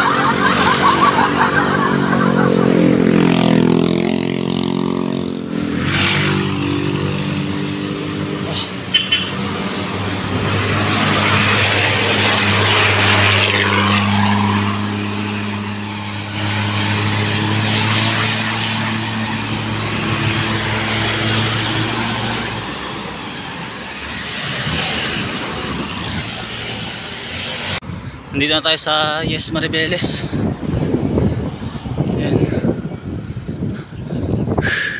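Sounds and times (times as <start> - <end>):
motor vehicle engine hum: 0.0 - 28.3
wind rushing over microphone: 0.0 - 34.9.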